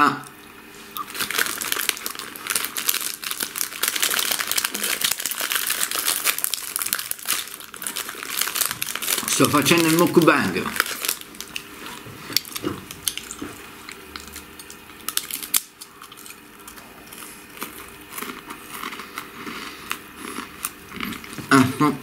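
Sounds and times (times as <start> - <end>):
person chewing crunchy food: 0.3 - 21.9.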